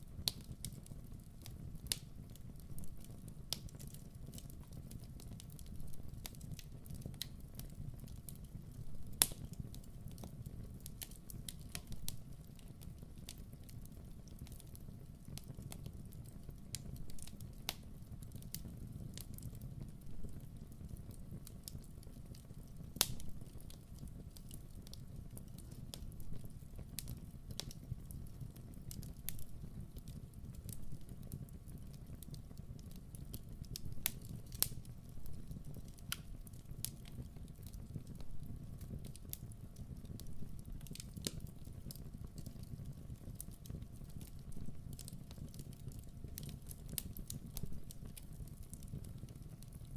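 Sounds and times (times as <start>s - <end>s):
fire crackling and popping: 0.0s - 49.9s
low rumble of flames: 0.0s - 49.9s.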